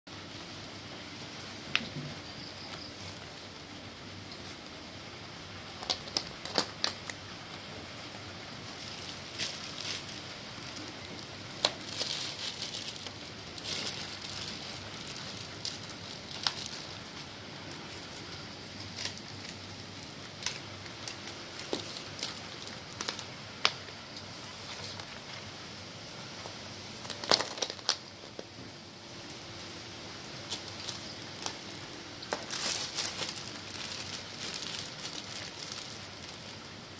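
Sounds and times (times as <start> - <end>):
steady hiss: 0.1 - 36.9
plastic packaging crinkling: 0.3 - 36.9.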